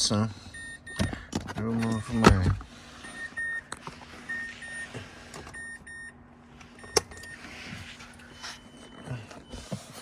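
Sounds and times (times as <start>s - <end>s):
car warning chime beeping: 0.0s - 1.2s, 1.8s - 10.0s.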